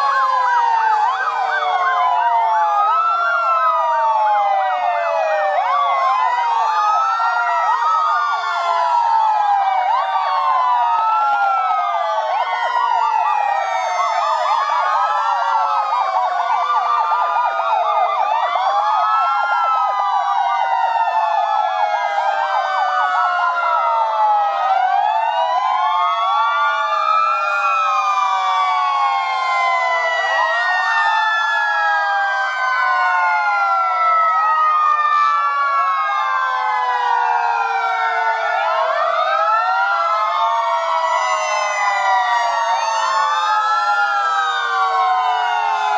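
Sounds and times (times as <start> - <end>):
fire engine sirens wailing: 0.0 - 45.9.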